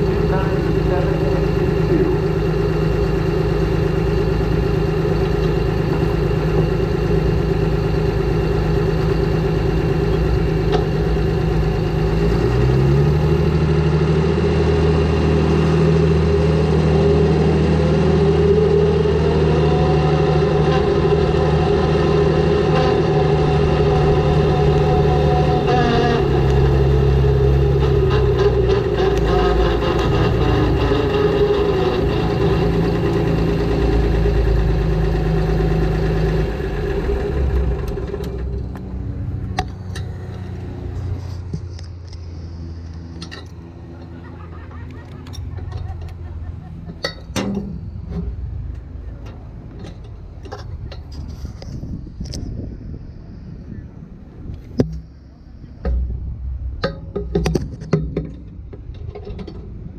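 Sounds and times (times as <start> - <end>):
climbing engine tone: 0.0 - 59.9
diesel tractor engine idling: 0.0 - 59.9.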